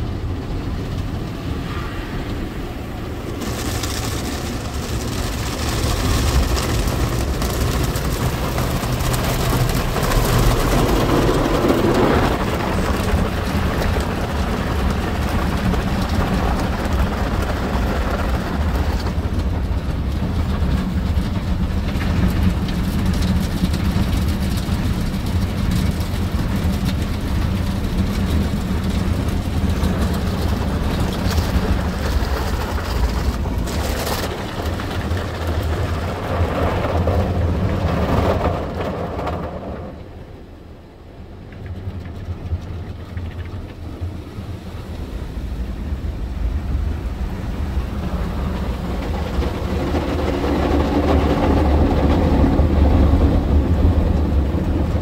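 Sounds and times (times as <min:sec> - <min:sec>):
car wash machinery hum: 0:00.0 - 0:55.0.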